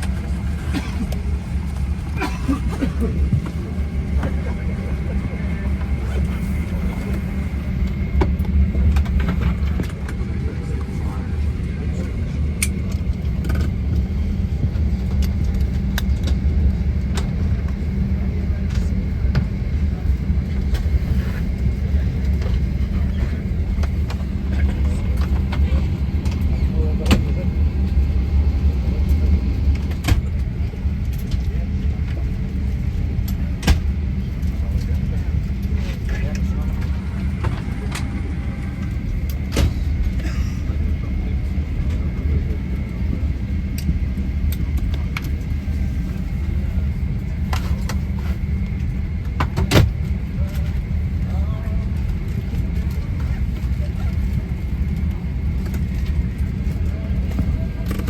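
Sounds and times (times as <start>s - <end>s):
low rumble in aircraft cabin: 0.0s - 58.0s.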